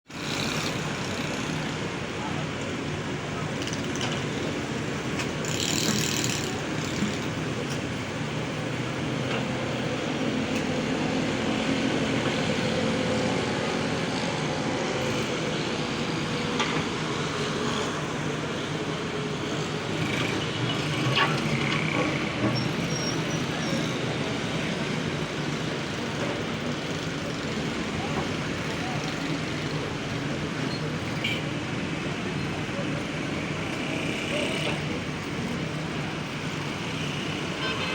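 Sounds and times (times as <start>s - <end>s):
excavator diesel engine running: 0.1s - 37.9s.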